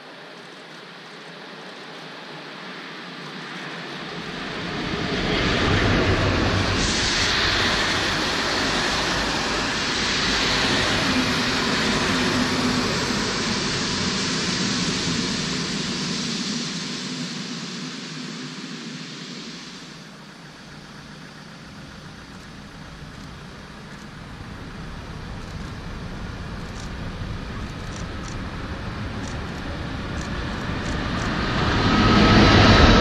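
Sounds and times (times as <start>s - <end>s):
train passing on rails: 0.0s - 33.0s.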